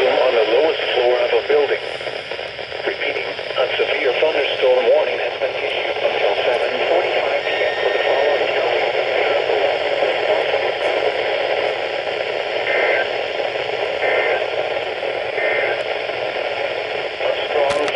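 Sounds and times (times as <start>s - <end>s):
radio static hiss: 0.0s - 17.9s.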